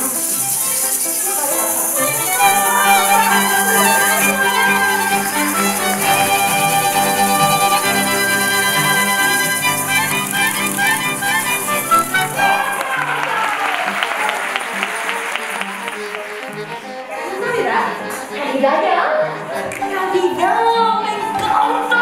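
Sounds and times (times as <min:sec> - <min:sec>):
maracas rattling: 0:00.0 - 0:18.4
bowed strings playing tune: 0:00.0 - 0:22.0.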